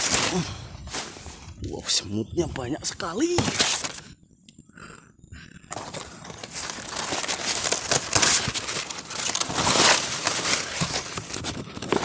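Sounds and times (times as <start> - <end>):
leaves rustling and crinkling: 0.0 - 4.0, 5.7 - 12.0.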